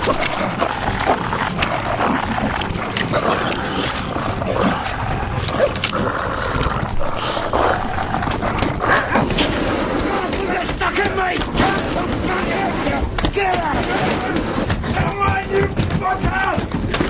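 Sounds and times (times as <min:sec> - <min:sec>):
creature growling and snarling: 0:00.0 - 0:16.0
cracking and tearing noises: 0:00.0 - 0:17.0.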